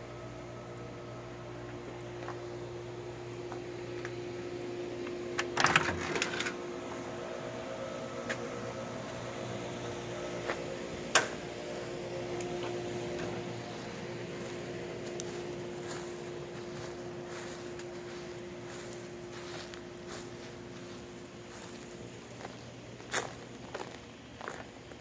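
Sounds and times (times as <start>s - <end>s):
steady machine hum: 0.0s - 25.0s.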